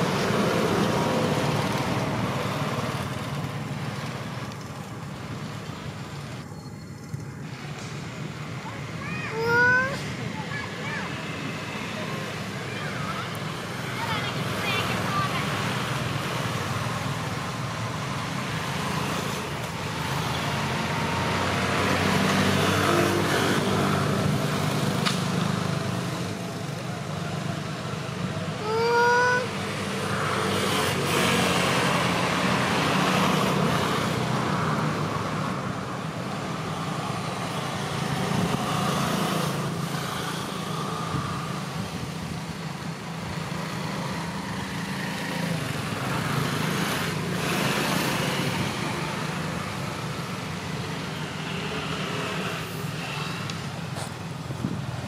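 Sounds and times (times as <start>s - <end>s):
distant road traffic rumble: 0.0s - 55.0s.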